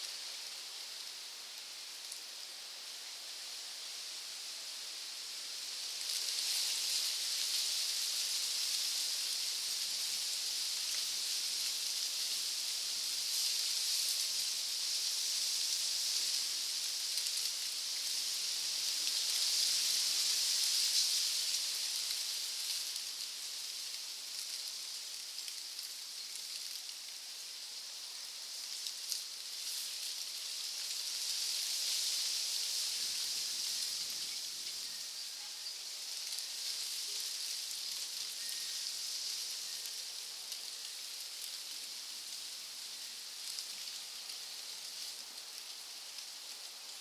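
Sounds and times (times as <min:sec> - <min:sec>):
rain falling on foliage: 0:00.0 - 0:47.0.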